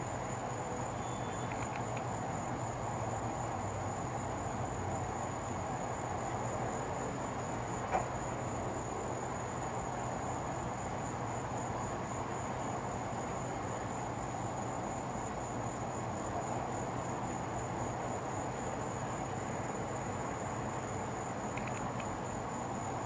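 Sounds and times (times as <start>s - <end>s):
insects trilling: 0.1s - 6.3s, 7.0s - 23.0s.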